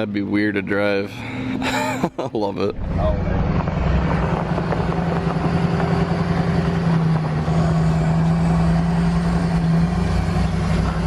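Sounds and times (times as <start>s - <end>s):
vehicle engine running: 0.6s - 11.0s.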